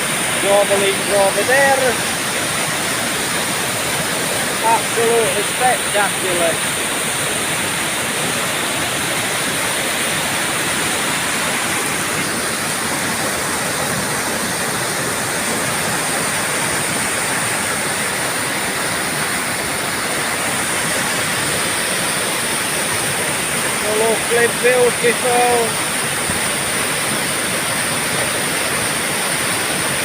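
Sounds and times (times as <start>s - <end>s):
river rushing through dam: 0.0s - 30.0s.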